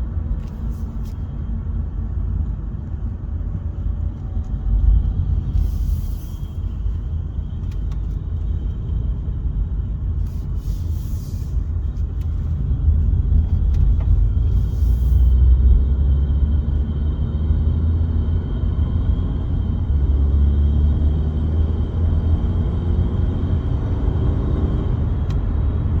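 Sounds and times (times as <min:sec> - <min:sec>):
car cabin low rumble: 0:00.0 - 0:26.0.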